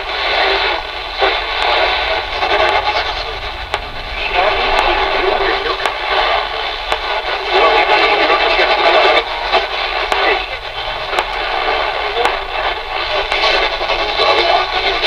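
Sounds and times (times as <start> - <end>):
sharp interference clicks: 0.0 - 15.0
tinny voice on radio: 0.0 - 15.0.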